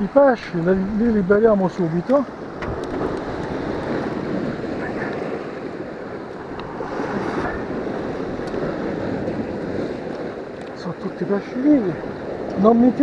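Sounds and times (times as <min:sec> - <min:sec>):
surf against rocky shore: 0:00.0 - 0:13.0
wind rumbling on microphone: 0:00.0 - 0:13.0.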